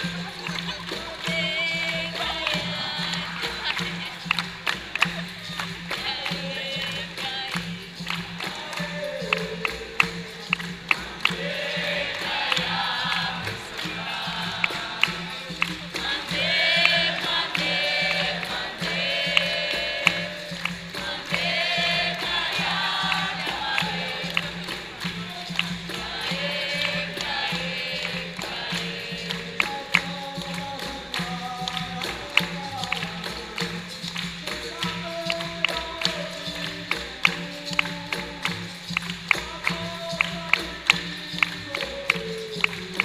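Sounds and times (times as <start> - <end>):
group of voices singing: 0.0 - 43.0
sharp percussion strikes: 0.0 - 43.0.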